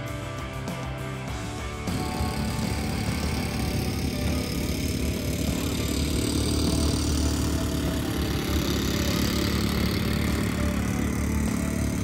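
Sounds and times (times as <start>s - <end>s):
quad bike engine: 0.0s - 12.0s
motorbike engine: 1.7s - 12.0s.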